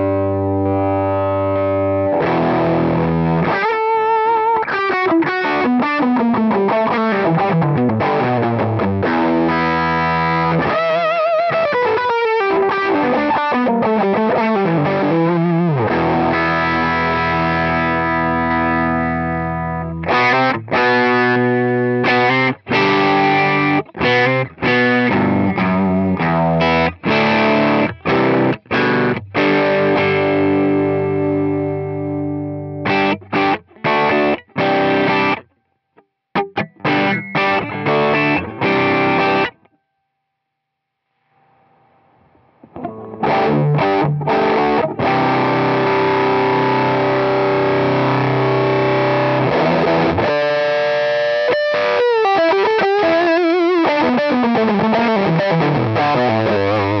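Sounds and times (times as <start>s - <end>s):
distorted electric guitar: 0.0s - 35.6s, 36.3s - 39.8s, 41.1s - 57.0s.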